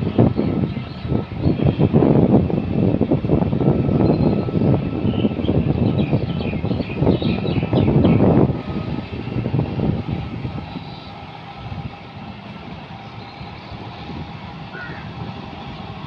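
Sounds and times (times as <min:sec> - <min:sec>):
rotavator churning mud: 0:00.0 - 0:16.0
tractor diesel engine running: 0:00.0 - 0:16.0.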